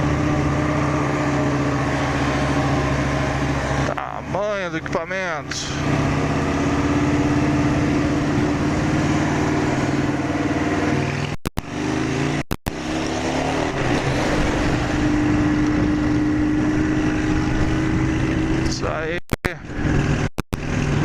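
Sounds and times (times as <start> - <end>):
motorcycle engine pulling uphill: 0.0 - 21.0.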